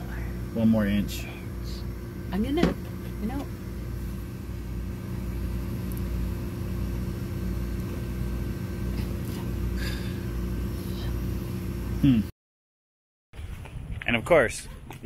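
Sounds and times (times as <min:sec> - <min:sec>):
low mechanical hum: 0:00.0 - 0:12.3.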